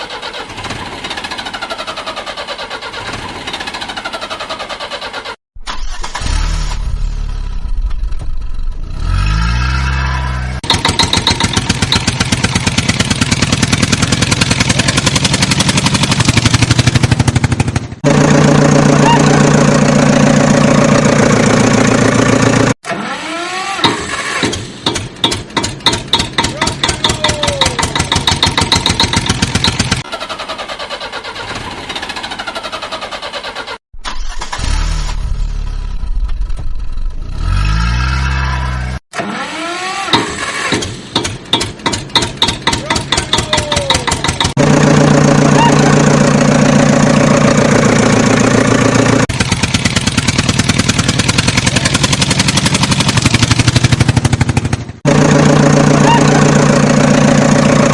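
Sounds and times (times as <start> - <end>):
diesel machinery engines: 0.0 - 35.8, 36.5 - 57.9.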